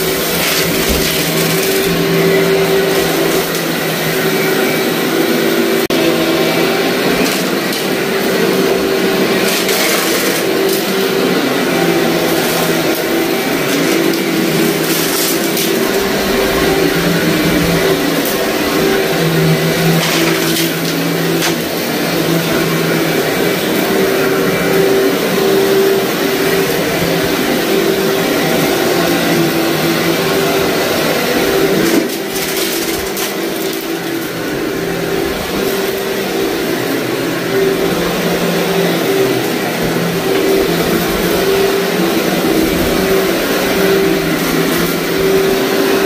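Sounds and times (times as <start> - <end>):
vacuum cleaner running: 0.0 - 46.0
vacuum crackling on grit: 0.0 - 46.0.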